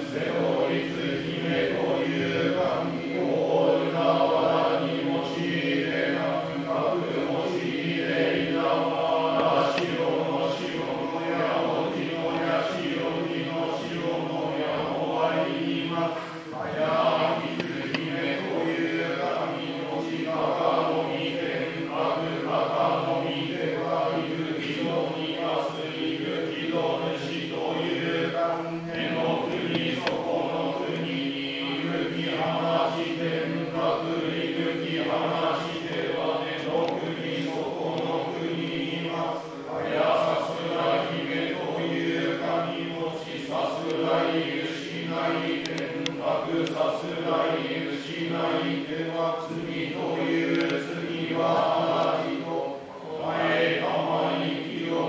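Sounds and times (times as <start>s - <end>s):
priests chanting in monotone: 0.0s - 55.0s.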